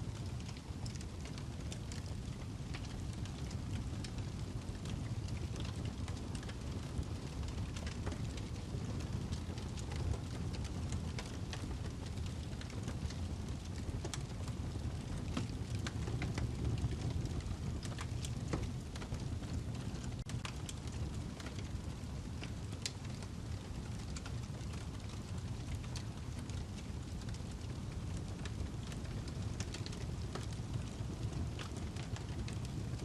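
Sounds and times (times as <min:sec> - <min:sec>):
fire burning with low rumble: 0:00.0 - 0:33.0
log crackling and popping: 0:00.0 - 0:33.0.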